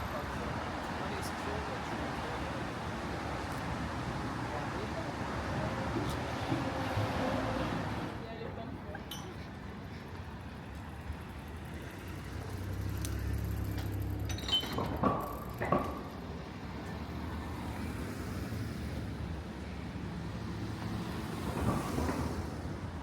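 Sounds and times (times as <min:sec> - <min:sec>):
steady street hum: 0:00.0 - 0:23.0.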